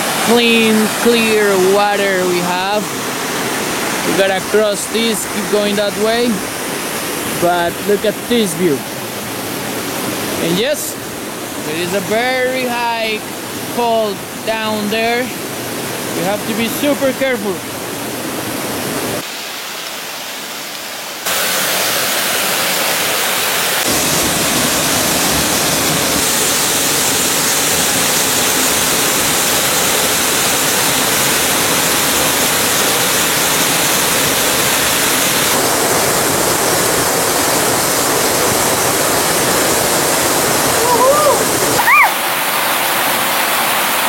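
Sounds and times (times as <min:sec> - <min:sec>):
river and waterfall rushing: 0:00.0 - 0:44.0.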